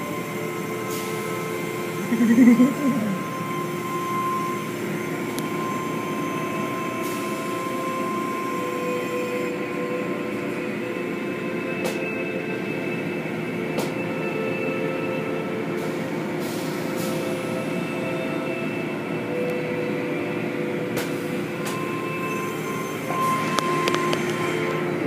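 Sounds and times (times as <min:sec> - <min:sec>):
car wash machine hum: 0:00.0 - 0:25.0.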